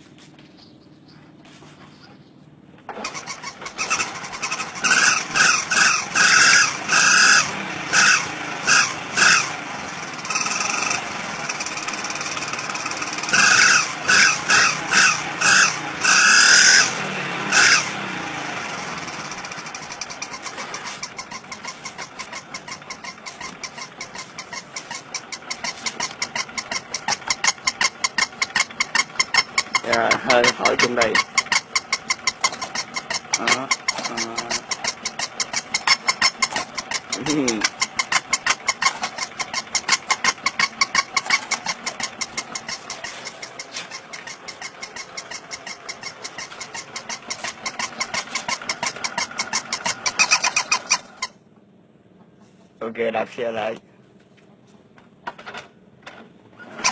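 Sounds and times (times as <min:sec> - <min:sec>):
motorcycle engine revving and idling: 0:00.0 - 0:56.9.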